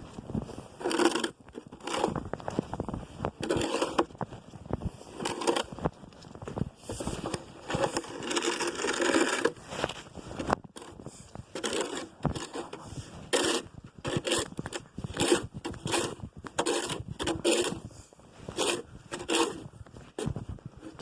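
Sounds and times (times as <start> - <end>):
snow crunching and scraping: 0.0 - 21.0.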